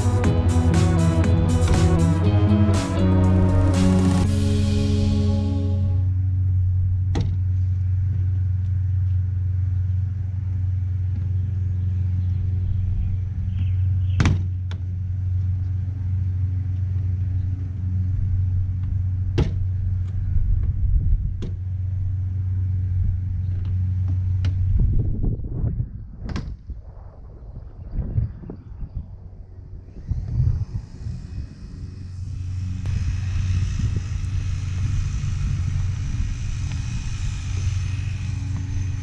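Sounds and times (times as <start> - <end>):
low rumble: 0.0 - 14.2, 14.8 - 39.0.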